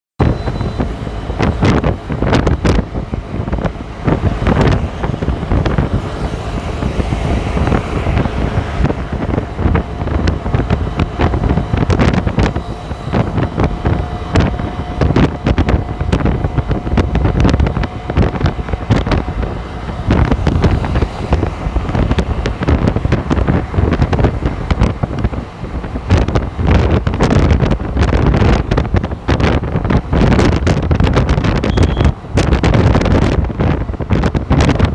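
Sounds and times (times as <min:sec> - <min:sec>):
highway traffic rushing: 0:00.2 - 0:34.9
wind buffeting on microphone: 0:00.2 - 0:34.9.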